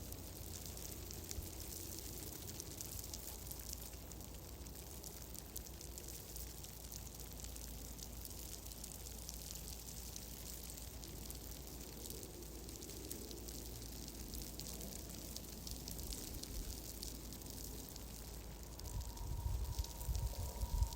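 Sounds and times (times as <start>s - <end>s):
fire crackling: 0.0s - 20.9s.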